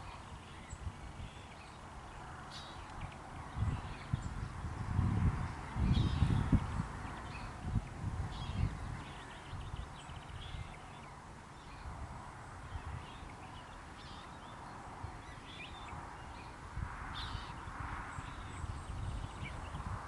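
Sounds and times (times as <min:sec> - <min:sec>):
small songbirds chirping: 0:00.0 - 0:20.0
wind rumbling on microphone: 0:00.0 - 0:20.0.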